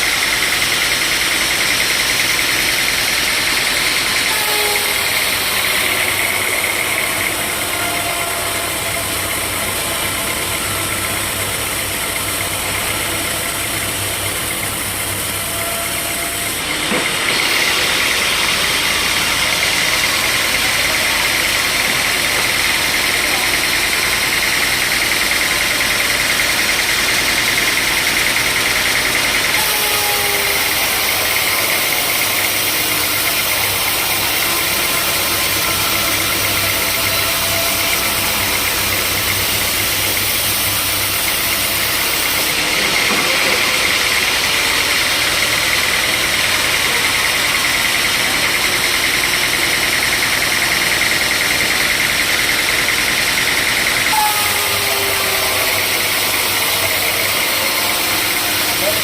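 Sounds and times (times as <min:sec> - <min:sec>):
sawmill machinery whining: 0:00.0 - 0:59.0.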